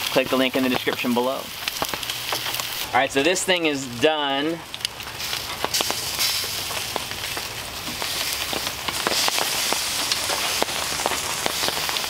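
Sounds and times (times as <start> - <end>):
rain pattering: 0.0 - 12.0
steak sizzling on grill: 0.0 - 12.0.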